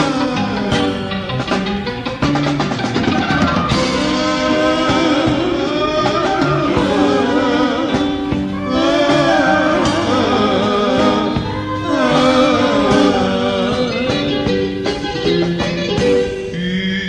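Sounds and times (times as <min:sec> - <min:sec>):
band playing instrumental music: 0:00.0 - 0:17.0.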